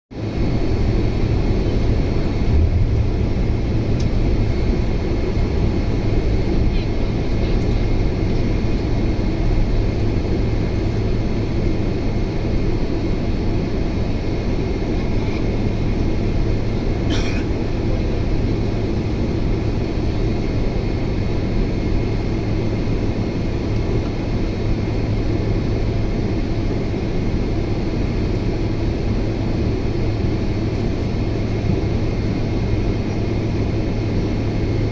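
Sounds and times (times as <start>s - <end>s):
jet engines roaring in cabin: 0.2s - 34.9s.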